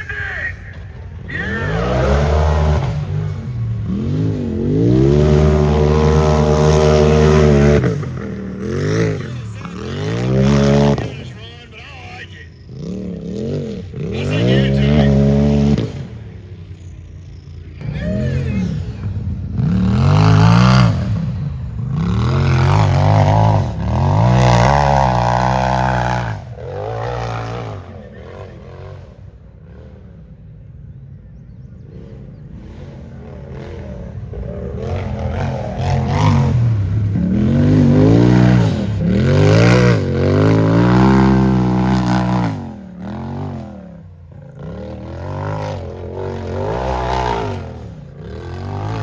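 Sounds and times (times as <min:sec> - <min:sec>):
engine revving hard: 0:01.3 - 0:16.9, 0:17.8 - 0:30.3, 0:31.8 - 0:49.0.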